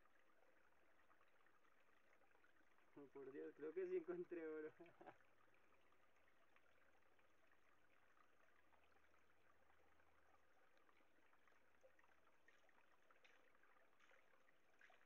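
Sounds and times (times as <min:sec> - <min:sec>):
small stream trickling: 0:00.0 - 0:15.0.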